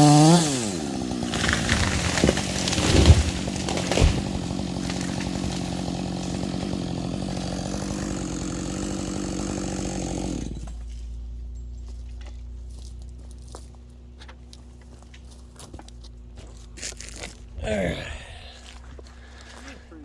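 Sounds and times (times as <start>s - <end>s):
chainsaw running: 0.0s - 11.2s, 14.5s - 20.0s.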